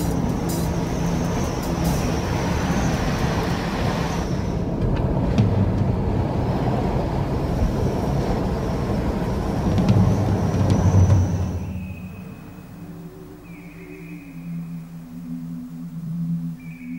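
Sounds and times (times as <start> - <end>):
car road and engine noise: 0.0 - 16.9
wind hiss: 0.0 - 16.9.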